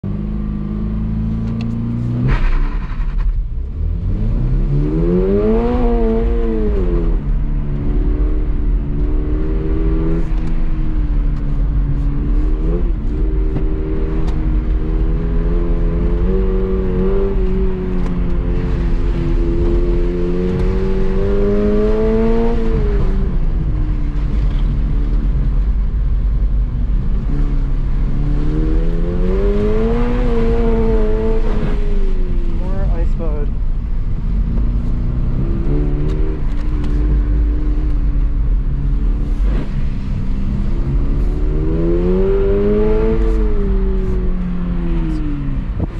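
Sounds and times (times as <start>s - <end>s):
car engine revving: 0.0s - 45.9s
tyres rumbling on wet pavement: 0.8s - 45.9s.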